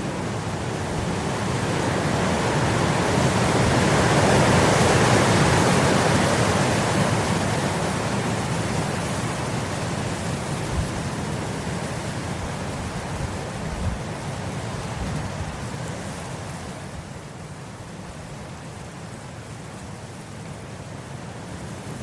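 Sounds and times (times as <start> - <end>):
wind blowing across grass: 0.0 - 22.0.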